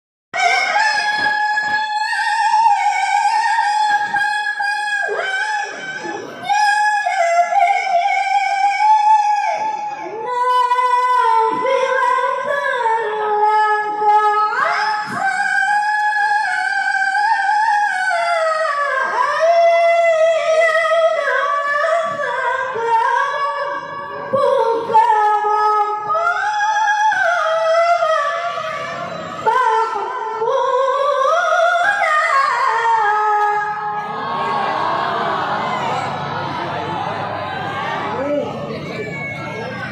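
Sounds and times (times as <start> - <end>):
woman reciting melodically: 0.4 - 34.2.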